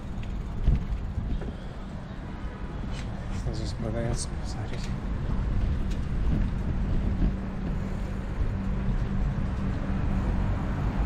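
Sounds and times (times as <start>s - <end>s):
road traffic noise: 0.0s - 11.0s
steady low hum: 0.0s - 11.0s
wind rumbling on microphone: 0.0s - 11.0s.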